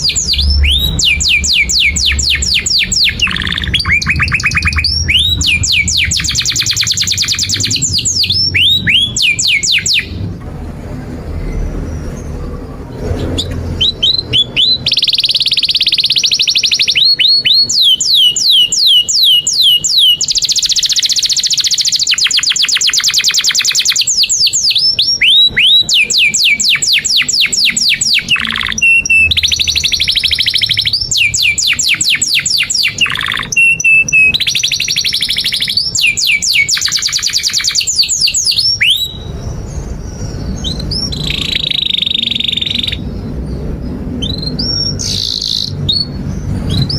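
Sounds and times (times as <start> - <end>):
canary singing: 0.0 - 10.4, 11.4 - 46.9.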